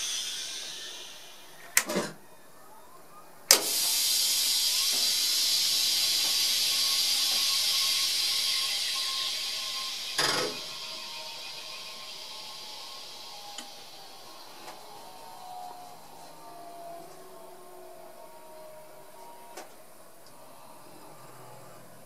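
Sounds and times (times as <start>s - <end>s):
compressed air hissing: 0.0s - 2.2s, 3.5s - 22.0s.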